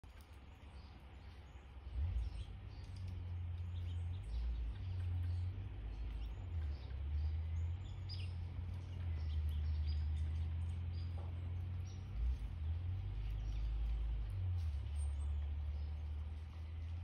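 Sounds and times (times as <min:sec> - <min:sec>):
loud uneven low rumble: 0:00.7 - 0:17.0.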